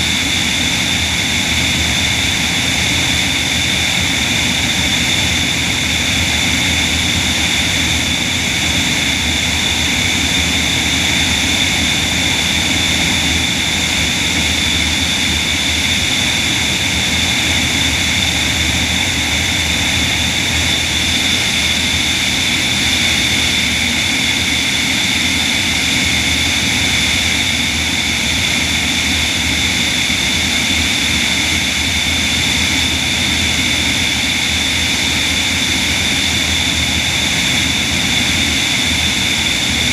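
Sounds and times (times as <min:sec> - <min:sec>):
propeller and airflow rush: 0:00.0 - 0:39.9.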